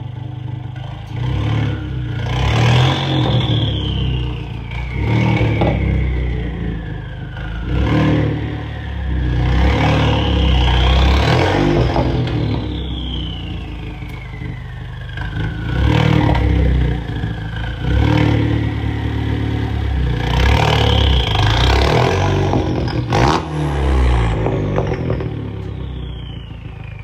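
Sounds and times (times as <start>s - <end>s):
low engine rumble: 0.0s - 27.0s
turbo whine: 0.0s - 27.0s.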